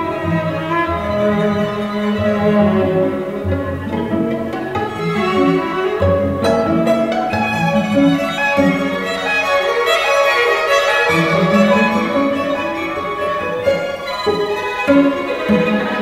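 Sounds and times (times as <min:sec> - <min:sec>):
low bowed strings: 0:00.0 - 0:16.0
violin melody: 0:00.0 - 0:16.0.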